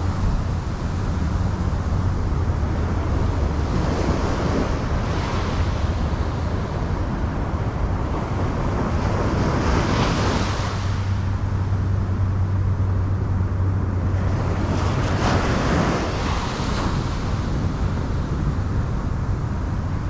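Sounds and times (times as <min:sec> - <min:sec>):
surf washing up a beach: 0:00.0 - 0:20.0
wind rumble on microphone: 0:00.0 - 0:20.0.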